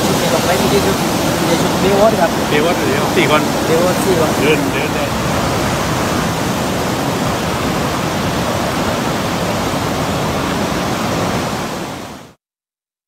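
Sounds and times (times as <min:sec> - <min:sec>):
breaking surf: 0:00.0 - 0:12.4
wind: 0:00.0 - 0:12.4.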